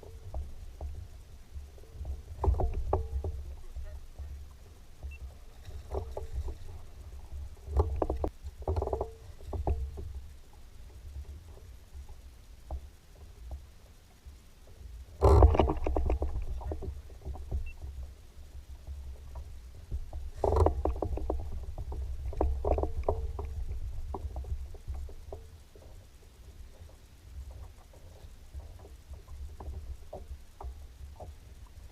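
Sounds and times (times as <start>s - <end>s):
knocks and clicks on boat: 0.0s - 31.9s
steady low rumble: 0.0s - 31.9s.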